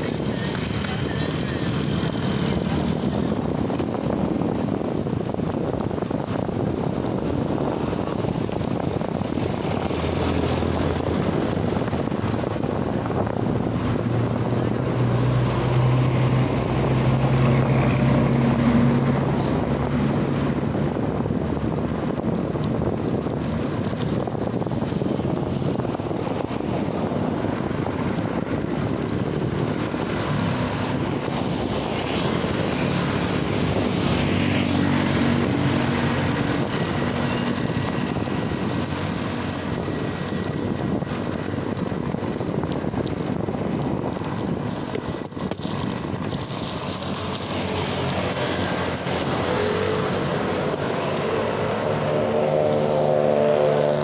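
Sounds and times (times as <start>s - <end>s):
vehicle engine humming: 0.0s - 54.0s
wind and road noise: 0.0s - 54.0s.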